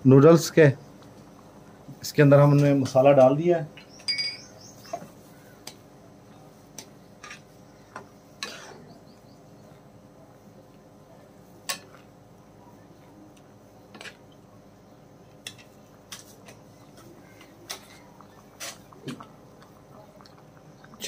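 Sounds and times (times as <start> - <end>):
low steady background: 0.0 - 21.0.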